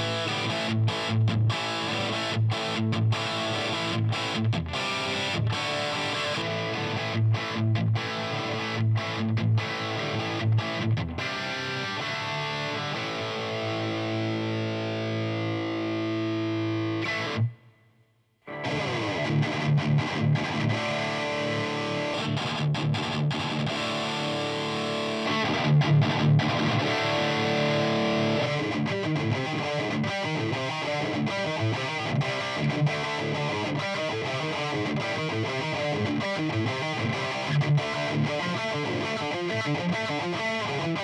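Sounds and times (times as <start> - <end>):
distorted electric guitar: 0.0 - 17.8, 18.4 - 41.0.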